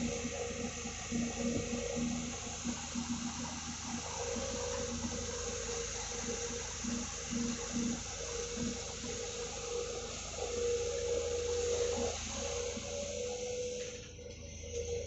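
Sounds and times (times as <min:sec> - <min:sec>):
excavator engine humming: 0:00.0 - 0:15.0.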